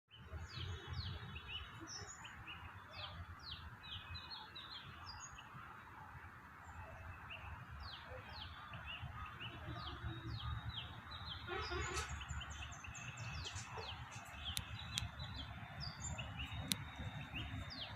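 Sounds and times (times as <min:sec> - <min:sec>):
small birds chirping: 0:00.1 - 0:05.8, 0:06.6 - 0:17.9.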